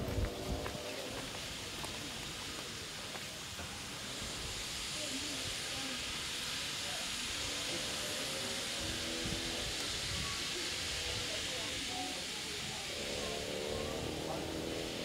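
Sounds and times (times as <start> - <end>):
steam venting hiss: 0.0 - 15.0.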